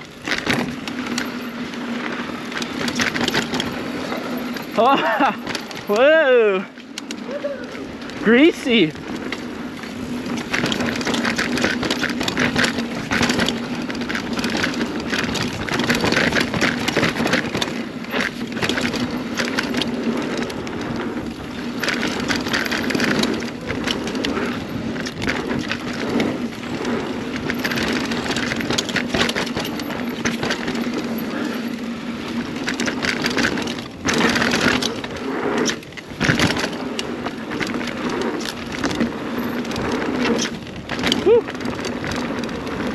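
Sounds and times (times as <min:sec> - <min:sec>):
bike rattling over bumps: 0:00.0 - 0:42.9
bike tyres on dirt trail: 0:00.0 - 0:42.9.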